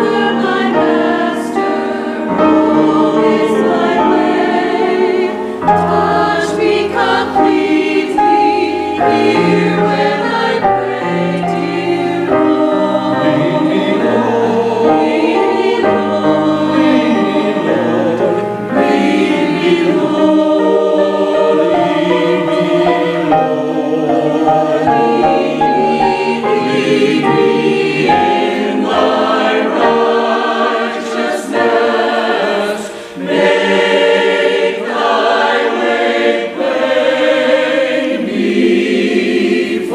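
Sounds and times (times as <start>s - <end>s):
choir singing worship music: 0.0s - 39.9s.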